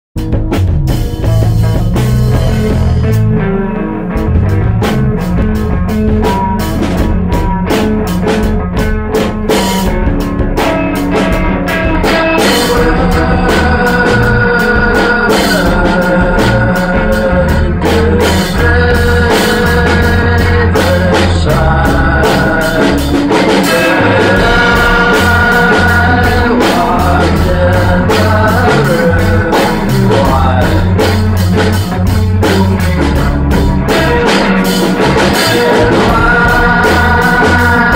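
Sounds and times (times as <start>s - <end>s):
drum kit: 0.2s - 37.9s.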